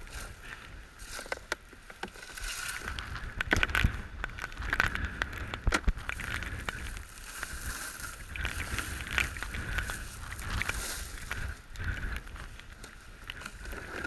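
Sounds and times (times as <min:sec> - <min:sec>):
gear clicks and knocks: 0:00.0 - 0:14.0
wind rumble on microphone: 0:02.3 - 0:14.0.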